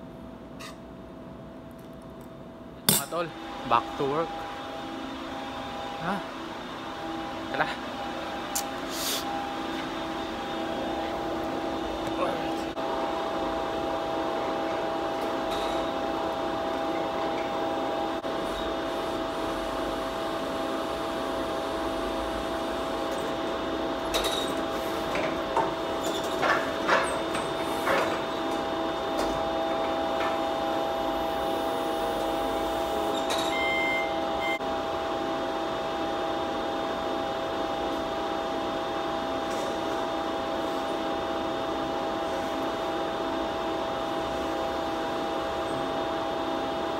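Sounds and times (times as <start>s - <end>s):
workshop machinery humming: 0.0s - 46.9s.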